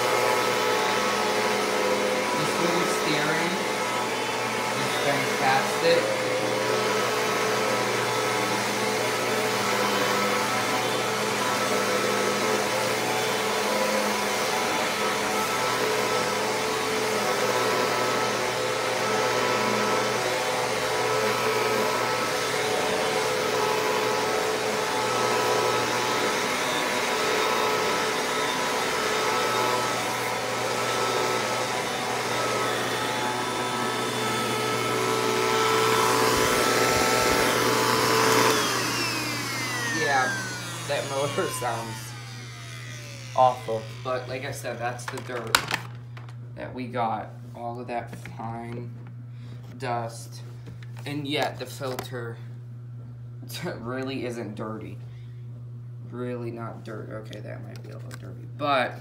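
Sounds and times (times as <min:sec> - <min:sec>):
vacuum cleaner whining drone: 0:00.0 - 0:59.0.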